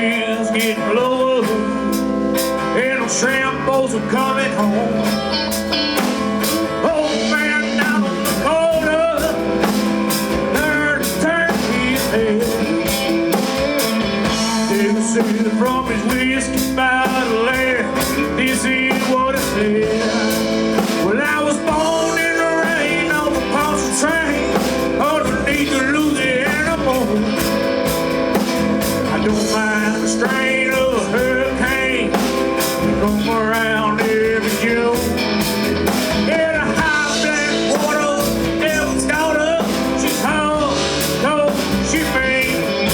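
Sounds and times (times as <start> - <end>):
rock blues band playing: 0.0 - 42.9.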